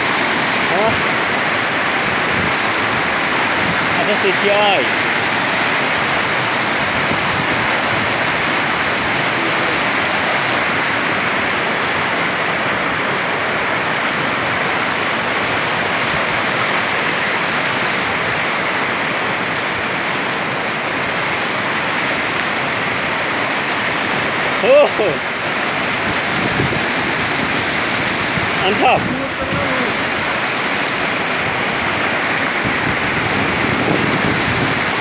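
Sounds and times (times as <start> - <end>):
mountain stream rushing: 0.0 - 35.0.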